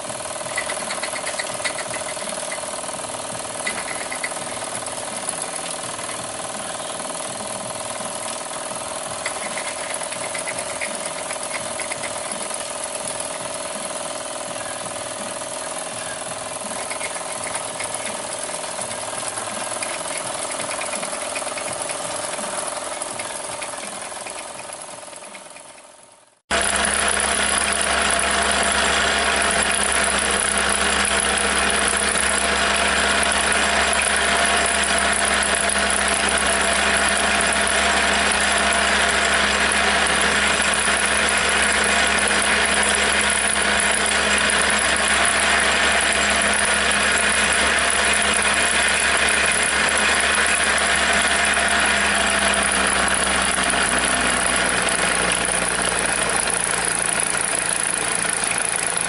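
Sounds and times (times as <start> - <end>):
toy steam engine running: 0.0 - 59.0.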